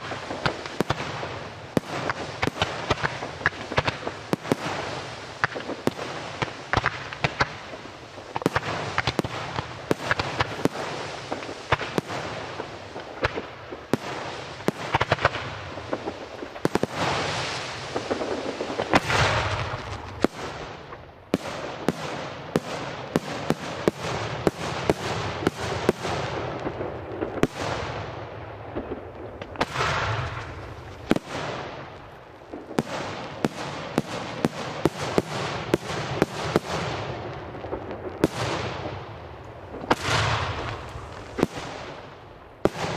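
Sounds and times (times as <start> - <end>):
rolling firework swells: 0.0 - 42.9.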